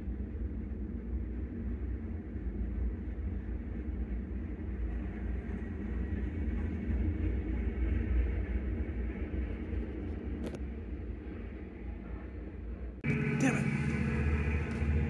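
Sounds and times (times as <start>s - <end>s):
freight train rumbling on track: 0.0s - 15.0s.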